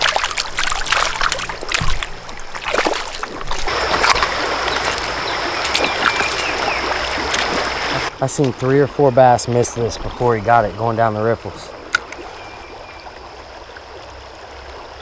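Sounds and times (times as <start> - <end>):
creek water running over riffles: 0.0 - 15.0
water splashes: 0.0 - 15.0.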